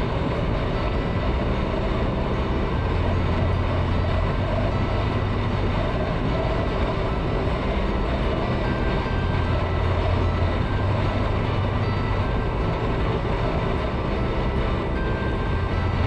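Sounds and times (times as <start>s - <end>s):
motorcycle engine drone: 0.0s - 16.0s.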